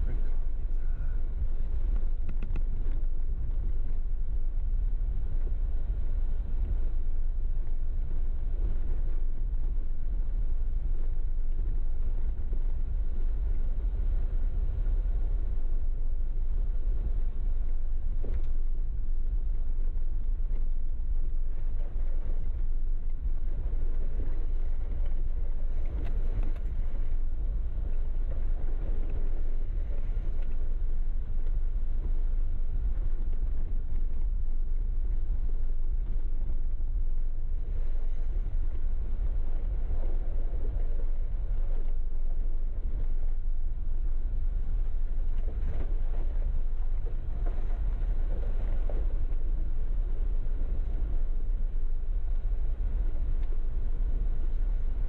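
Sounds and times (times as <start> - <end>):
engine and tyres rumbling: 0.0 - 55.0.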